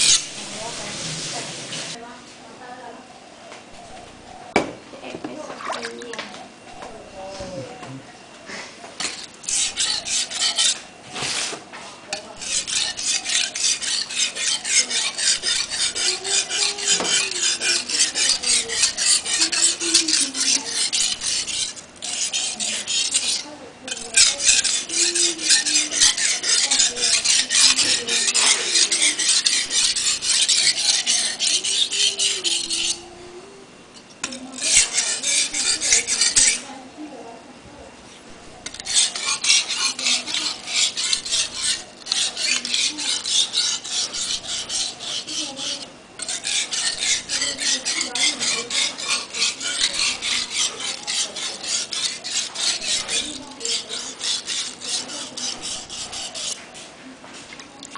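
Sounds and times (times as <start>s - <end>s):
knife scraping on whetstone: 0.0s - 1.9s, 9.0s - 33.3s, 34.0s - 36.7s, 38.4s - 56.9s.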